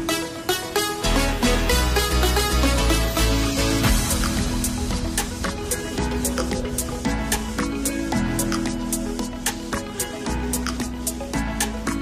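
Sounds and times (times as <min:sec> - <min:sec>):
melodic music with heavy bass: 0:00.0 - 0:12.0.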